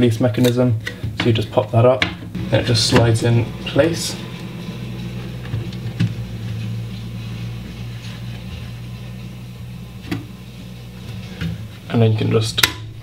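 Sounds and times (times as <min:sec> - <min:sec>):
low hum: 0:02.2 - 0:13.0.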